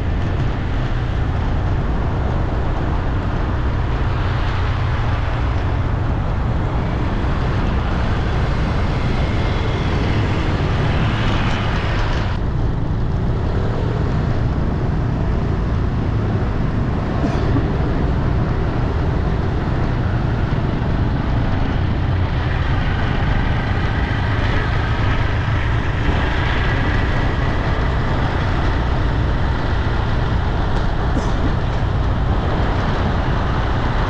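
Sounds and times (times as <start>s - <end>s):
city road traffic rumble: 0.0s - 34.0s.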